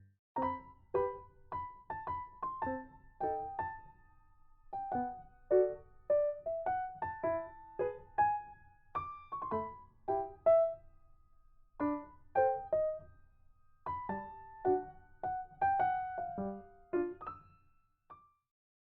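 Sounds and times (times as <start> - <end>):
slow piano melody: 0.0 - 11.0, 11.8 - 18.3.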